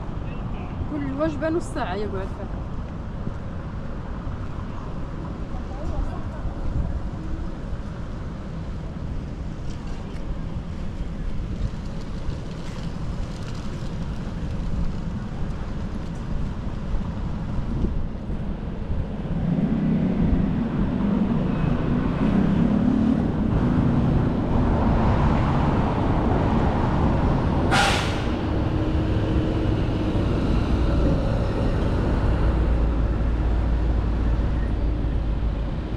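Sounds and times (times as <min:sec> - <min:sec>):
rumble of passing cars: 0:00.0 - 0:35.9
wind buffeting microphone: 0:00.0 - 0:35.9.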